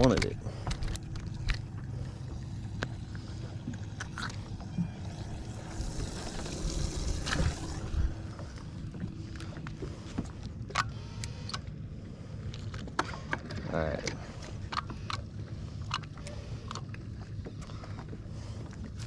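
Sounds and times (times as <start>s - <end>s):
boat engine rumble: 0.0s - 19.0s
faint hum: 0.0s - 19.0s.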